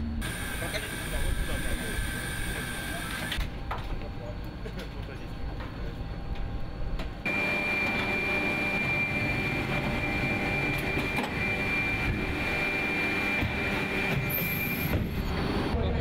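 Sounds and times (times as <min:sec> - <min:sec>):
high-pitched whine: 0:00.0 - 0:03.5, 0:05.9 - 0:15.8
machinery and ventilation hum: 0:00.0 - 0:16.0.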